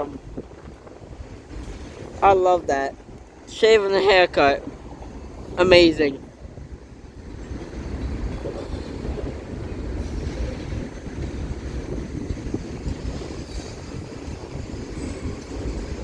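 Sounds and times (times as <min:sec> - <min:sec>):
train wheels rolling on rail: 0:00.0 - 0:16.0.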